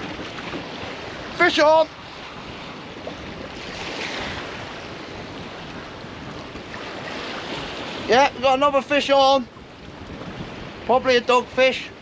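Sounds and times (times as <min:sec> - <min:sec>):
rush of open sea: 0:00.0 - 0:12.0
wind buffeting microphone: 0:00.0 - 0:12.0.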